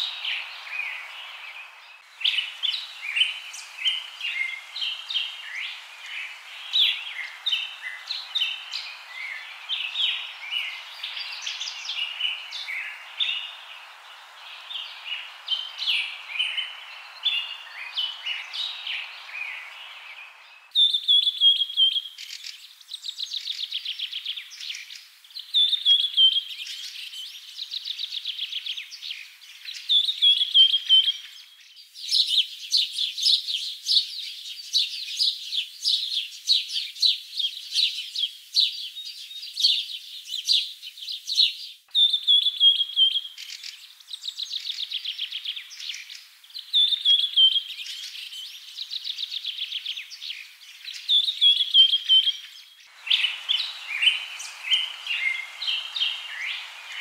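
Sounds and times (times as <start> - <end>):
birds chirping and trilling: 0.0 - 32.4, 38.6 - 57.0.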